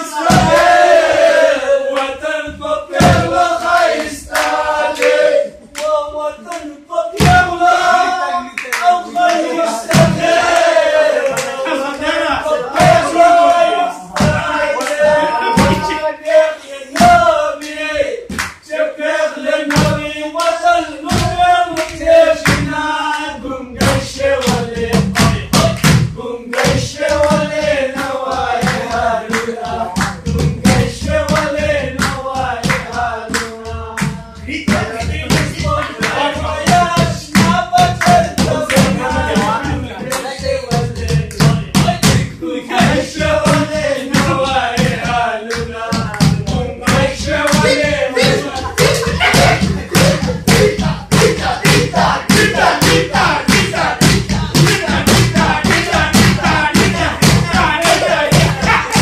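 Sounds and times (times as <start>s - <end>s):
men singing together: 0.0s - 59.0s
rhythmic thumps: 0.0s - 59.0s
hand claps: 3.0s - 7.6s, 8.5s - 12.2s, 14.2s - 18.8s, 19.6s - 59.0s.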